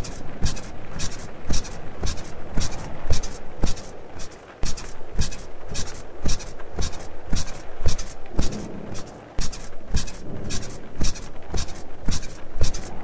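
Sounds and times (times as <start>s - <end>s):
bed springs squeaking: 0.0s - 13.0s.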